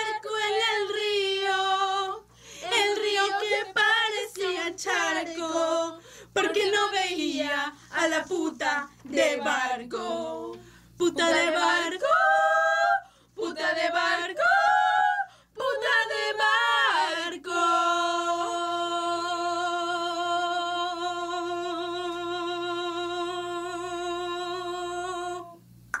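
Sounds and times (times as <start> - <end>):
person singing unaccompanied: 0.0 - 26.0.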